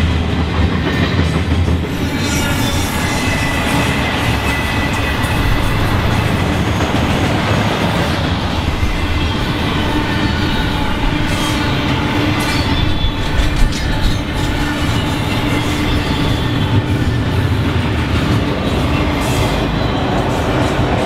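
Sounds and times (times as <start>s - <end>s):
steel wheels rumbling on rail: 0.0s - 21.0s
wheels squealing: 1.8s - 21.0s.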